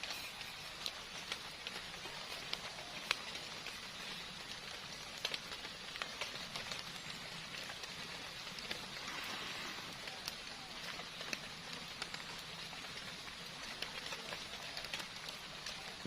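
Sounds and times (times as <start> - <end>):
close raindrops striking: 0.0 - 16.0
heavy rain falling: 0.0 - 16.0.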